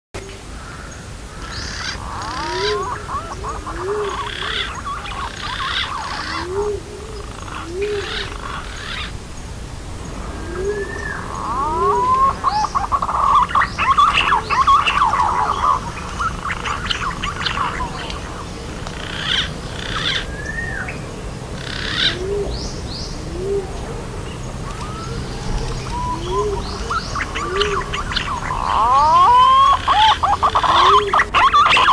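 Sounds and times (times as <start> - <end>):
high gliding whistled bird calls: 0.2 - 9.2, 10.0 - 31.9
pigeon cooing: 1.7 - 9.1, 10.3 - 18.4, 21.6 - 31.9.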